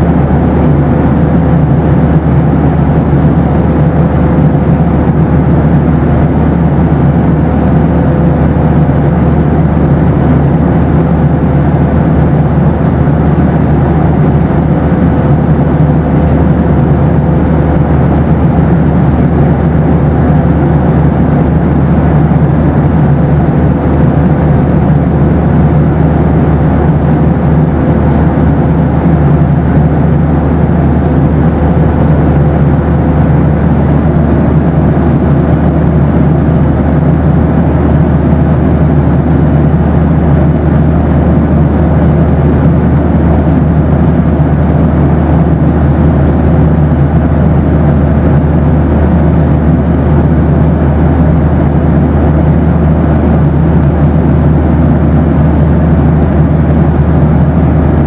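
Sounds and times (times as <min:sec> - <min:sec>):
airplane cabin engine roar: 0:00.0 - 0:58.0
faint steady hum: 0:00.0 - 0:58.0.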